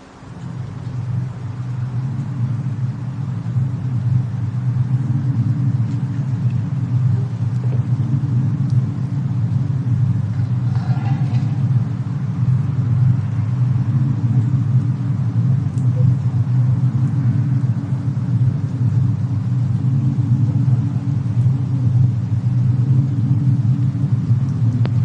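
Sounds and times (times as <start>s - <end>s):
faint fire crackles: 0.0s - 25.0s
steady low rumble: 0.0s - 25.0s.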